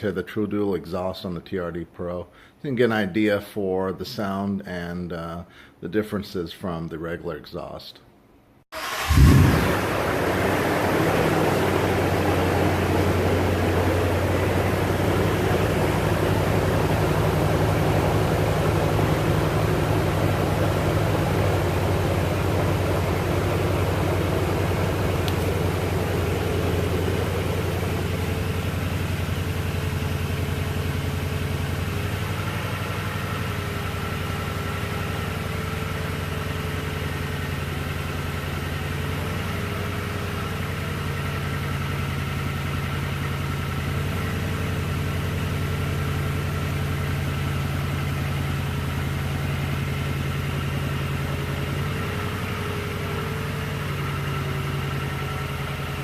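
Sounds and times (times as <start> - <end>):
engine idling: 8.7 - 56.0.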